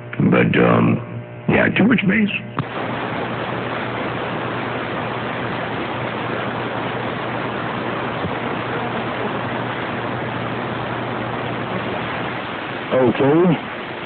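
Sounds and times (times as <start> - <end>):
faint low hum: 0.0 - 14.0
radio static hiss: 0.0 - 14.0.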